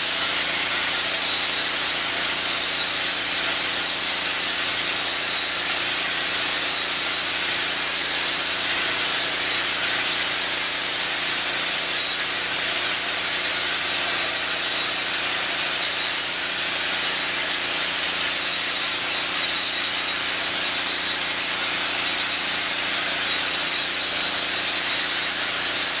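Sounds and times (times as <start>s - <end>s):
floor grinder grinding concrete: 0.0s - 26.0s.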